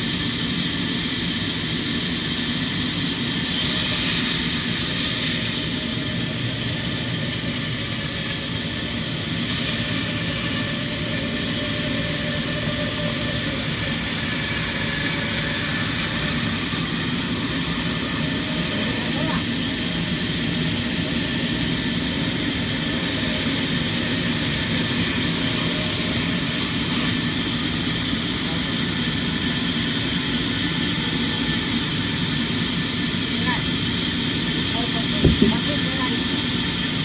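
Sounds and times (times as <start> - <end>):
sawmill machinery running: 0.0 - 37.0
saw cutting log hiss: 0.1 - 36.9.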